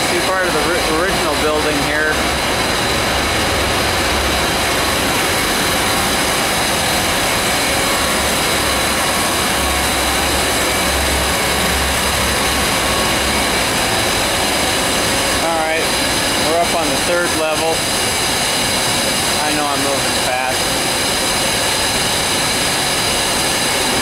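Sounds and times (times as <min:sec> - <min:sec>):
boiler plant machinery rushing: 0:00.0 - 0:24.0.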